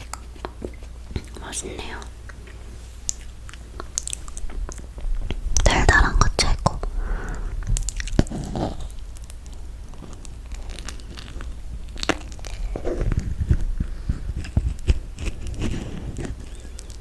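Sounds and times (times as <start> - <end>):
chewing sticky marshmallow: 0.0 - 17.0.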